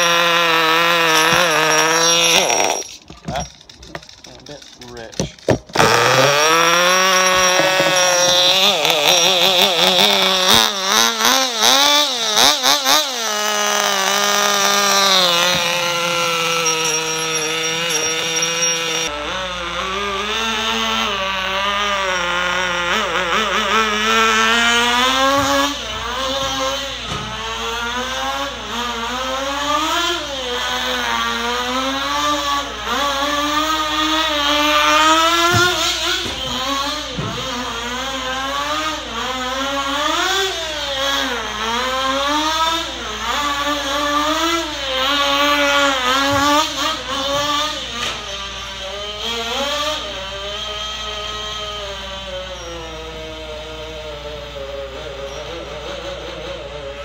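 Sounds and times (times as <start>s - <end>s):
rc car engine revving: 0.0s - 57.0s.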